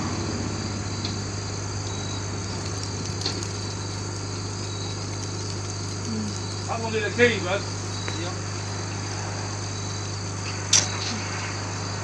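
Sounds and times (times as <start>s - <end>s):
faint insect chirring: 0.0s - 12.0s
vehicle engine idling: 0.0s - 12.0s.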